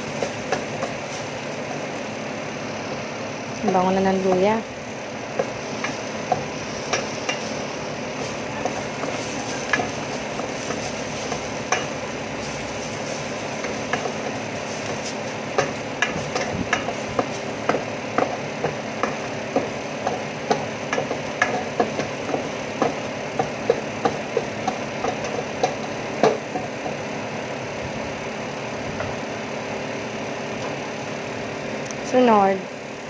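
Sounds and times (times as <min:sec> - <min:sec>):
food sizzling in oil: 0:00.0 - 0:27.5.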